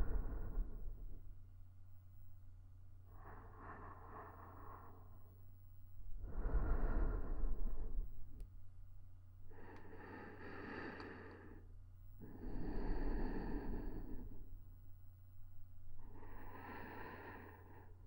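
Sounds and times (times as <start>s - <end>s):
woman breathing slowly: 0.0s - 2.4s, 3.0s - 18.0s.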